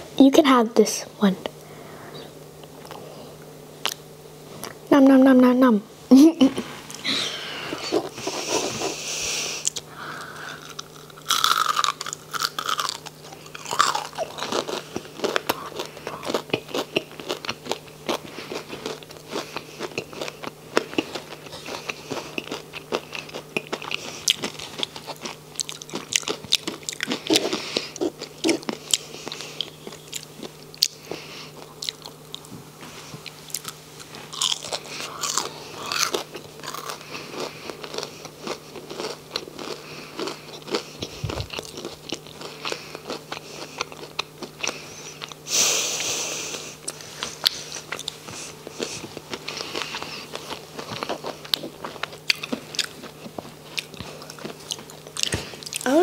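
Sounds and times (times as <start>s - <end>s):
crunchy food chewing: 9.6s - 56.0s.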